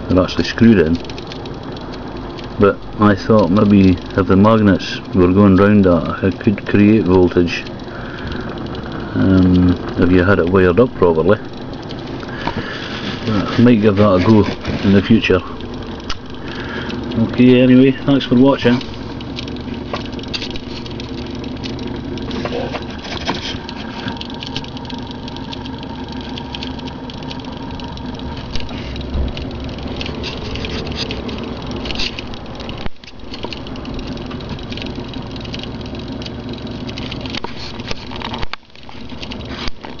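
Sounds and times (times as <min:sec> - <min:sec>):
small motor humming with fine rattle: 0:00.0 - 0:40.0.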